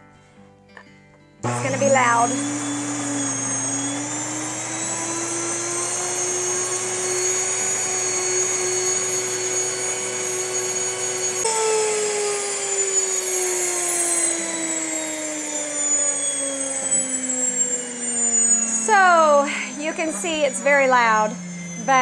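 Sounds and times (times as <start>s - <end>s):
grain mill motor whine: 1.4s - 22.0s.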